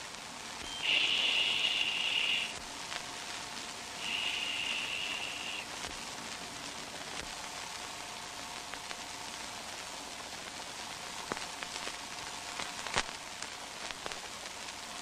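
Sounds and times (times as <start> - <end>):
old film soundtrack hiss and crackle: 0.0 - 15.0.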